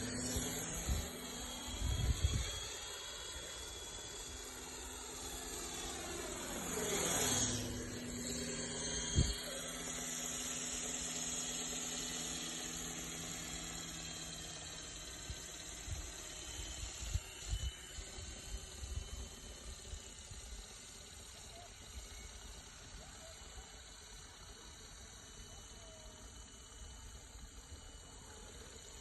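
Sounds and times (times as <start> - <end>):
model helicopter motor whine: 0.0 - 29.0.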